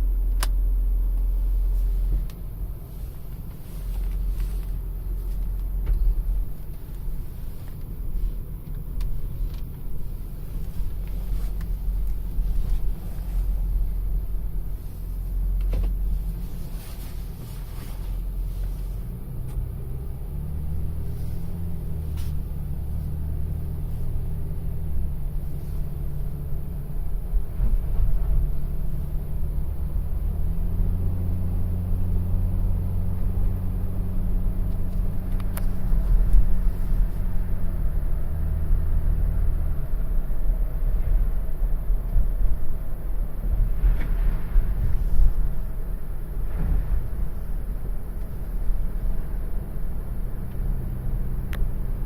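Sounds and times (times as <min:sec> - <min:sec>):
road noise: 0:00.0 - 0:52.0
truck engine hum: 0:00.0 - 0:52.0.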